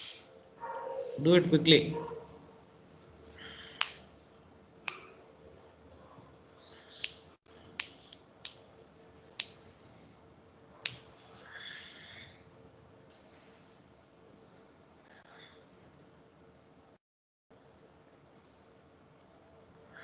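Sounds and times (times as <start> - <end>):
faint hum and hiss: 0.0 - 20.0.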